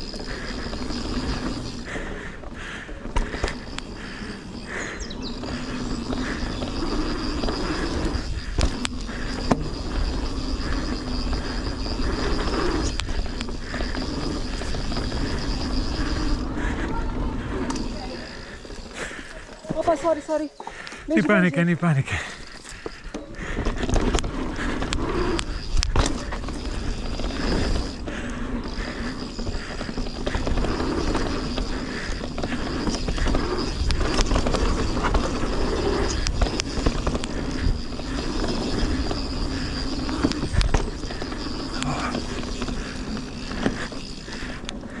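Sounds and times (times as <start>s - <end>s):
bike knocking and rattling: 0.0s - 20.2s, 22.4s - 45.0s
bike tyres rolling on dirt: 0.0s - 45.0s.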